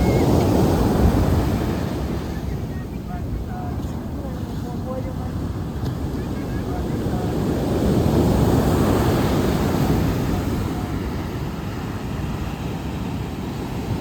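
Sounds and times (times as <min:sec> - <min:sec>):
ocean surf washing onto shore: 0:00.0 - 0:14.0.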